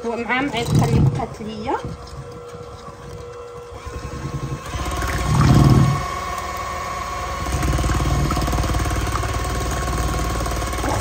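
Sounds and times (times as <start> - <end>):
electric hand mixer whirring: 0.0 - 11.0.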